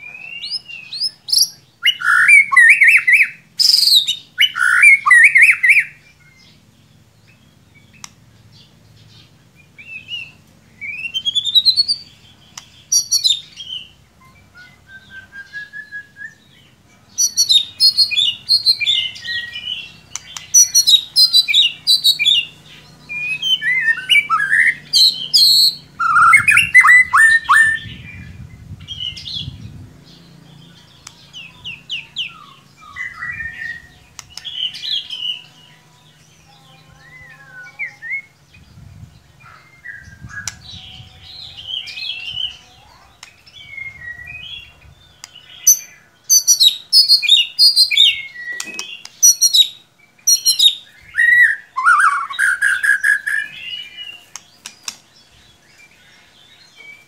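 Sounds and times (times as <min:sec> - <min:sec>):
bird singing whistles and trills: 0:00.0 - 0:06.6, 0:09.6 - 0:29.8, 0:30.8 - 0:35.5, 0:36.9 - 0:57.0.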